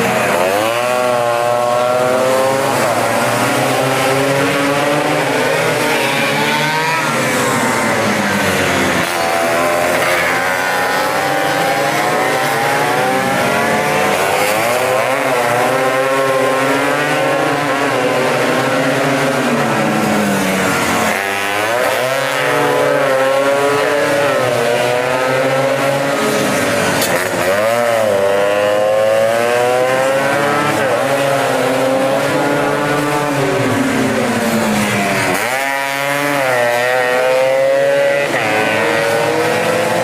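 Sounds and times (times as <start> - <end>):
scooter engines revving: 0.0 - 40.0.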